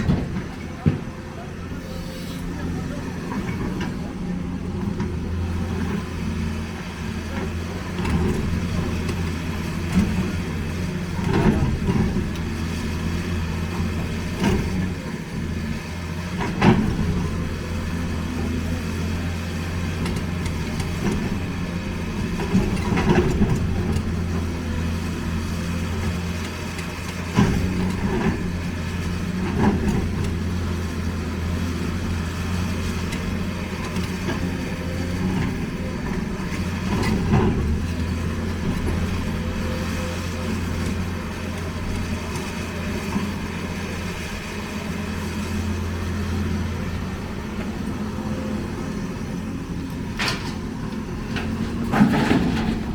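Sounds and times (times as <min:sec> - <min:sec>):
diesel machinery engine running: 0:00.0 - 0:52.9.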